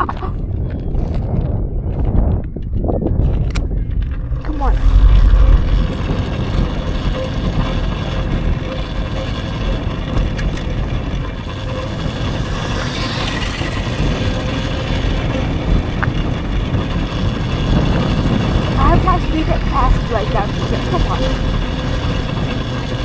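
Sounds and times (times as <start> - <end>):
electric bike hum: 0.0 - 23.0
tyres running over dirt: 0.0 - 23.0
wind rumbling on microphone: 0.0 - 23.0.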